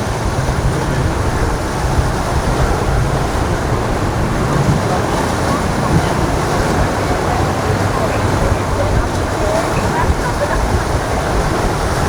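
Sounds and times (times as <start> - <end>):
boat engines running: 0.0 - 12.0
surf: 0.0 - 12.0
wind: 0.0 - 12.0.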